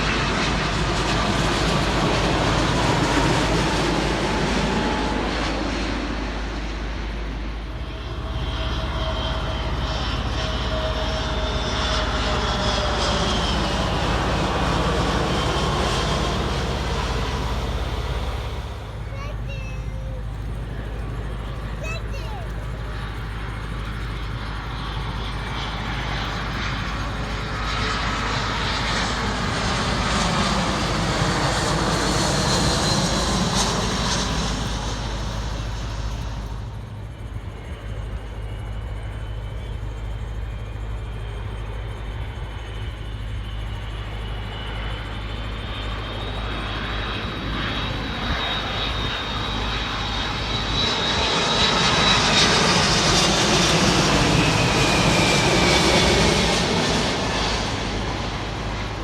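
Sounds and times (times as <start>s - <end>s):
jet airliner roar flying past: 0.0s - 59.0s
jet engine whine: 0.0s - 59.0s.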